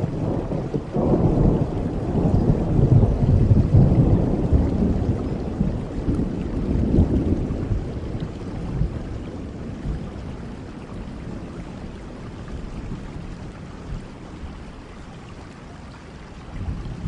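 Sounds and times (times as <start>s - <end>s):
thunder rumbling: 0.0s - 14.5s, 16.6s - 17.0s
steady rain: 0.0s - 17.0s.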